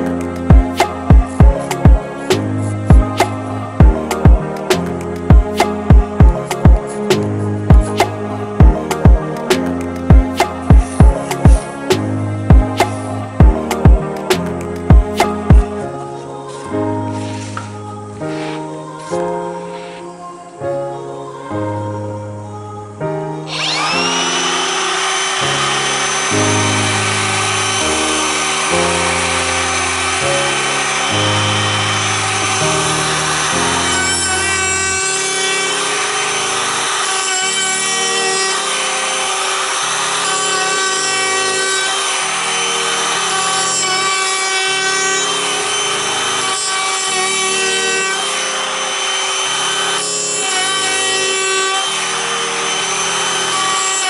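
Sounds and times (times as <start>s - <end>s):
router bit cutting wood: 0.0s - 15.8s, 23.5s - 54.0s
wood router whining: 0.0s - 20.0s, 23.5s - 54.0s
background music: 0.0s - 54.0s.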